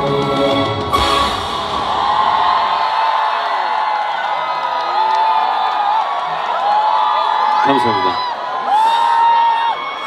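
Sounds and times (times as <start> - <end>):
audience cheering and screaming: 0.8 - 10.0.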